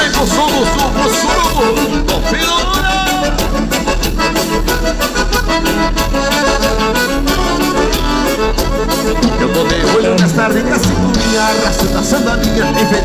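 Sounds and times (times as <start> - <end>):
accordion melody: 0.0 - 13.0
dance band playing: 0.0 - 13.0.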